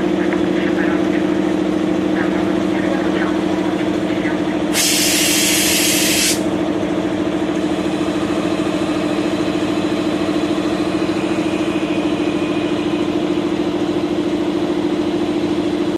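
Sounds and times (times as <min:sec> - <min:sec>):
diesel locomotive engine idling: 0:00.0 - 0:15.9.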